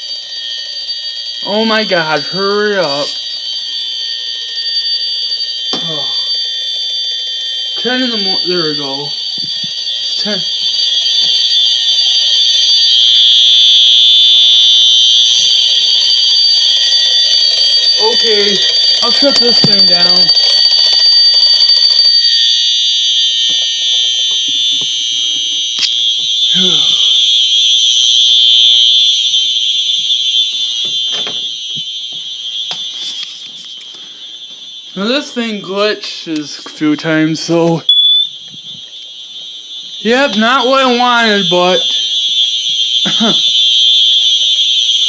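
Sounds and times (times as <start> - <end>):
smoke alarms shrill tone: 0.0 - 45.0.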